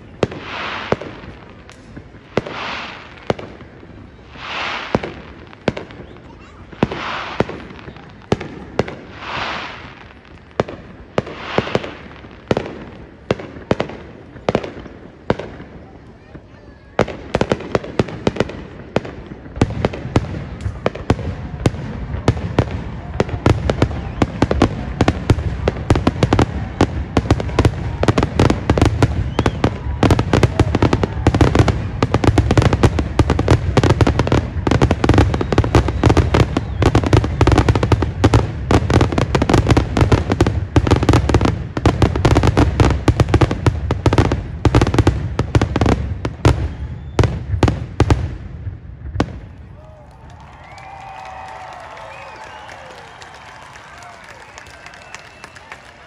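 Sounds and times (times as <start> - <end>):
fireworks booms and crackles: 0.0 - 56.0.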